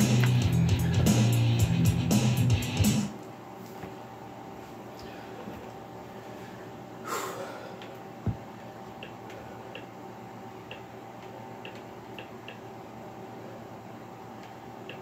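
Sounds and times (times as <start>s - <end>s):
room noise hum: 0.0s - 15.0s.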